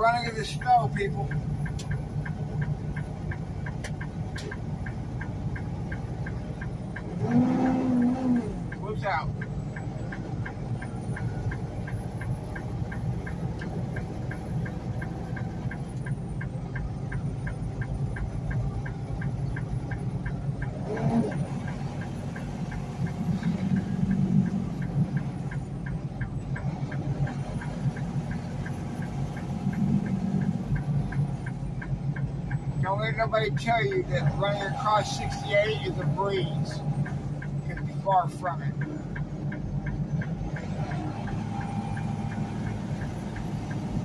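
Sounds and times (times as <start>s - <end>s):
light rapid ticking: 0.0s - 44.0s
truck engine and road noise droning: 0.0s - 44.0s.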